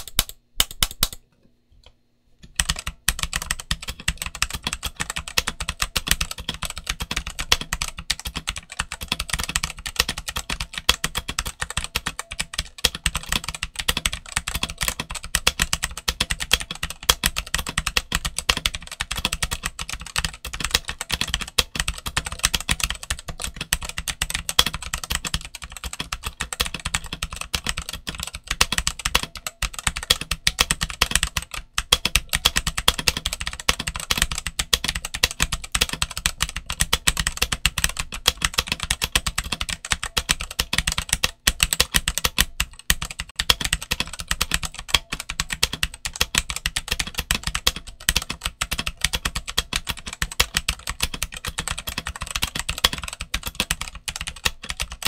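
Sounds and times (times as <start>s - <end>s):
mechanical keyboard typing: 0.0s - 1.2s, 2.4s - 55.0s.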